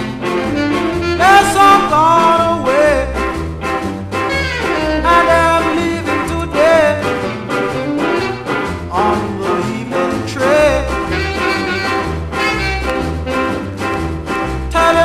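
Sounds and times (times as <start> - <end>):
horn line with wavering pitch: 0.0 - 9.0, 9.9 - 15.0
repeating bass notes: 0.0 - 15.0
shuffle beat: 0.0 - 15.0.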